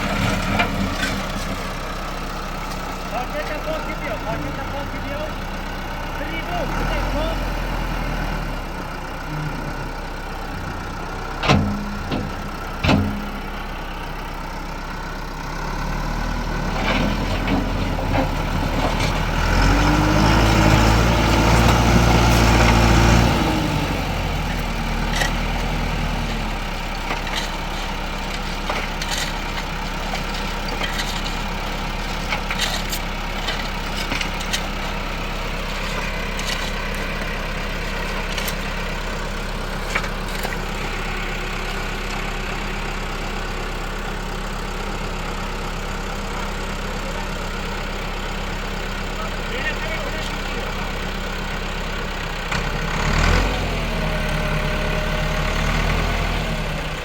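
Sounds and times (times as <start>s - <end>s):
tractor engine running and revving: 0.0s - 57.0s.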